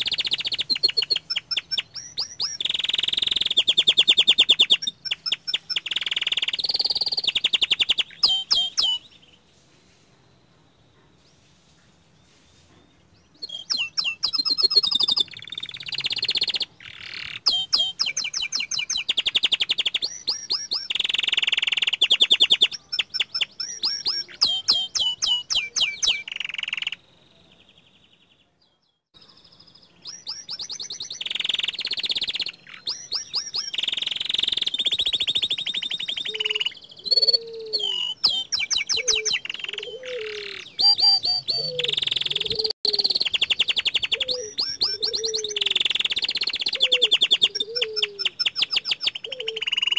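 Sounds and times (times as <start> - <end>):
canary singing trills: 0.0 - 9.5, 13.0 - 49.9.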